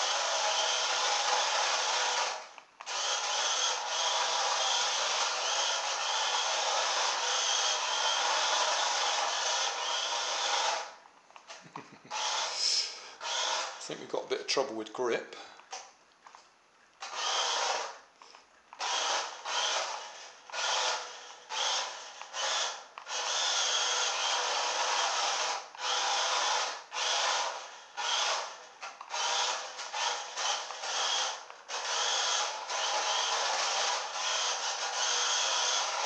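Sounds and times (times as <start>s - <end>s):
toy car motor whirring: 0.0s - 13.9s, 17.0s - 18.0s, 18.8s - 36.0s.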